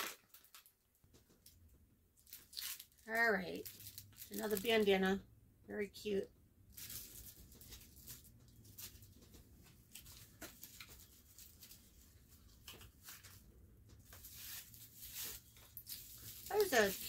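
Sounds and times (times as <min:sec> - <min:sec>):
plastic packaging rustling: 0:00.0 - 0:01.6, 0:02.2 - 0:05.0, 0:06.7 - 0:17.0
low room hum: 0:00.5 - 0:17.0.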